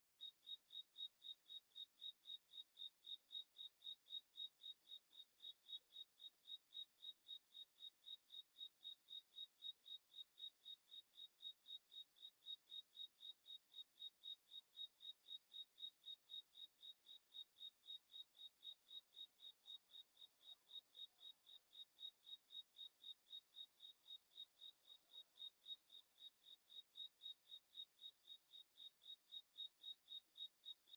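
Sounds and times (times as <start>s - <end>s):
cricket chirping: 0.2s - 30.9s.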